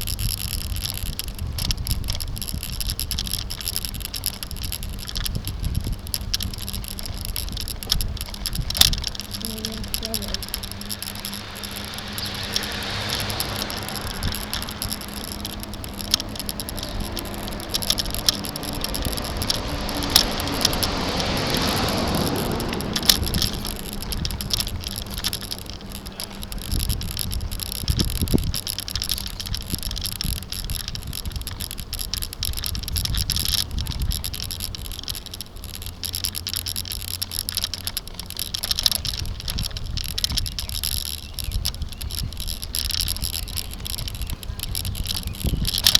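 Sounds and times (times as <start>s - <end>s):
bicycle tyres rumbling on road: 0.0s - 45.9s
camera mount rattling: 0.0s - 45.9s.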